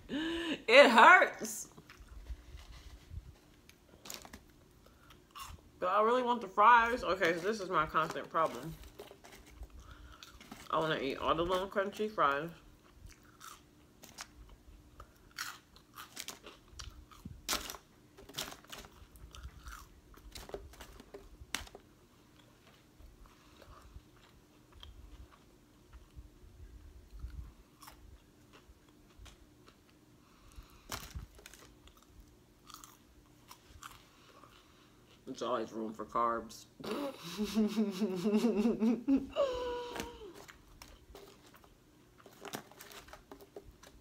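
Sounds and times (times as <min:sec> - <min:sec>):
faint hum: 0:00.0 - 0:44.0
crunchy fries being chewed: 0:01.7 - 0:02.7, 0:03.4 - 0:05.8, 0:06.9 - 0:35.4, 0:39.7 - 0:44.0.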